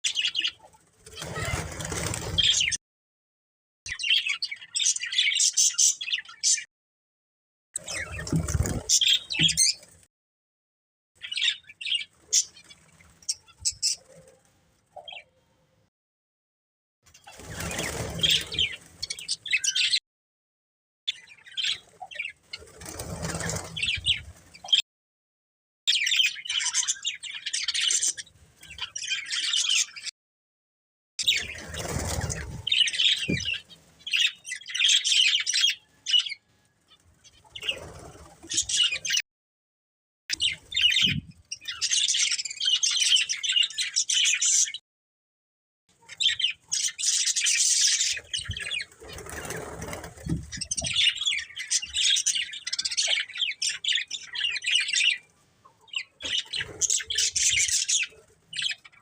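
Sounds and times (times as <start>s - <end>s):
budgerigars chirping and warbling: 0.1s - 2.8s, 3.9s - 6.7s, 7.8s - 10.0s, 11.2s - 14.3s, 17.1s - 20.0s, 21.1s - 24.8s, 25.9s - 30.1s, 31.2s - 39.2s, 40.3s - 44.8s, 45.9s - 59.0s.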